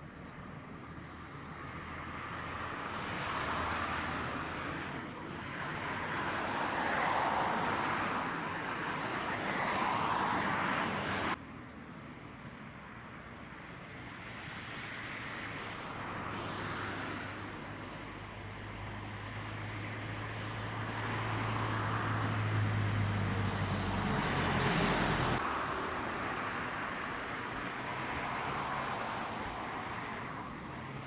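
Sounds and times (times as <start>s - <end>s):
vehicles passing: 0.0s - 31.0s.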